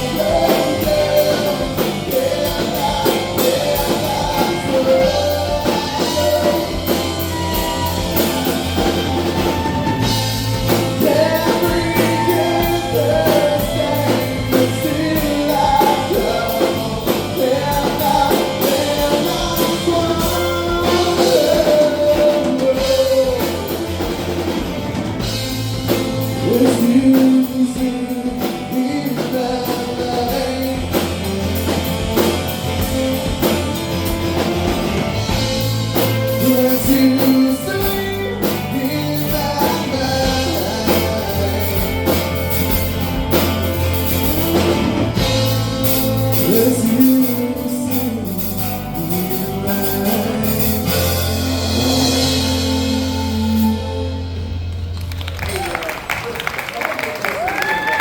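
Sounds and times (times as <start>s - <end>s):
person singing: 0.0s - 54.6s
electric guitar: 0.0s - 56.5s
bass line: 0.0s - 58.0s
drum kit: 0.0s - 58.0s.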